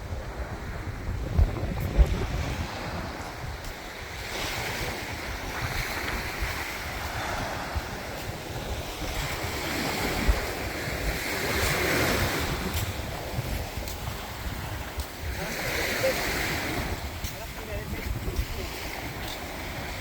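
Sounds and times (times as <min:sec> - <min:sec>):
breeze buffeting microphone: 0:00.0 - 0:20.0
small waves washing up beach: 0:00.0 - 0:20.0.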